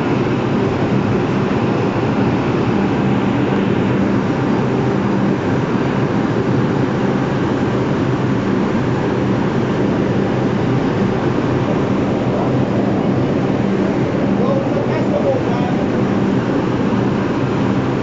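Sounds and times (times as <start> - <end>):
subway train humming: 0.0 - 18.0.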